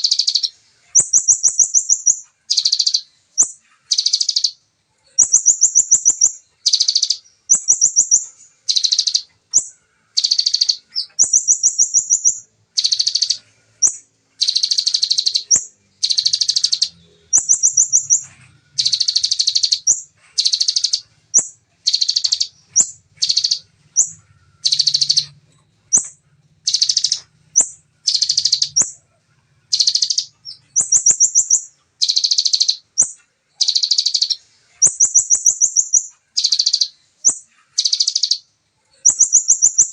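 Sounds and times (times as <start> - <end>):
bird singing buzzy trills: 0.0 - 39.9.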